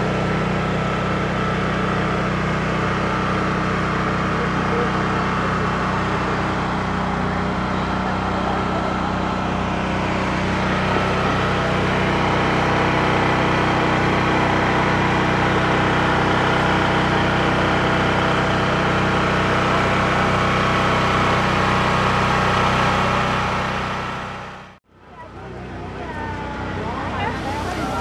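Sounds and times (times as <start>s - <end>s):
engine droning hum: 0.0s - 28.0s.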